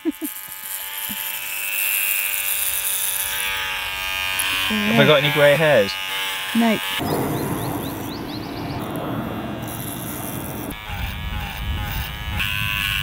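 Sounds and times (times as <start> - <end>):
hair clippers buzzing: 0.0 - 7.1, 8.0 - 13.0.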